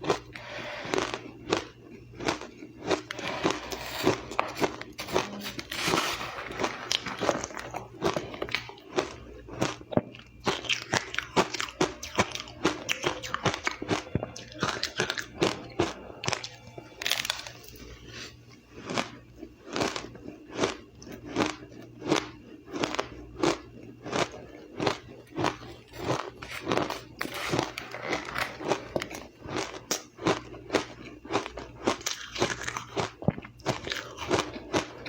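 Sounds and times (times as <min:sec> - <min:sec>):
crushed ice being chewed: 0:00.0 - 0:35.0.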